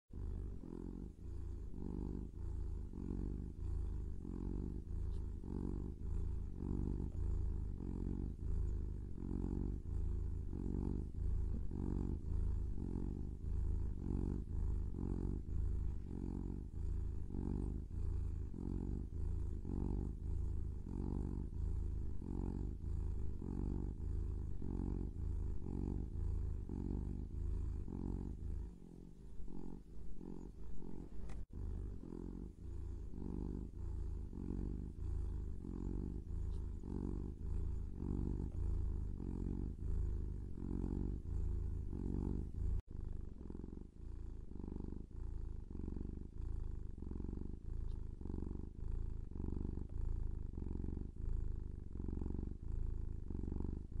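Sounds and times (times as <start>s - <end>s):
kitten purring: 0.0s - 54.0s.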